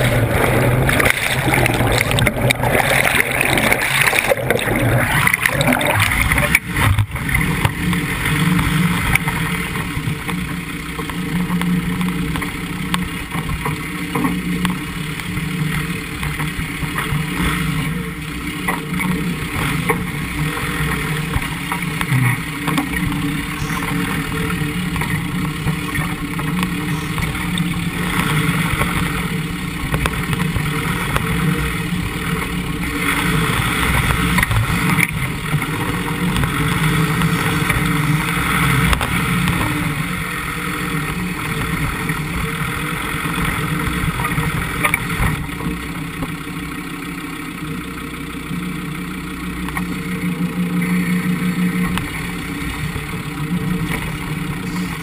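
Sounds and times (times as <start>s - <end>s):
car driving through water: 0.0s - 55.0s
car engine running: 0.0s - 55.0s.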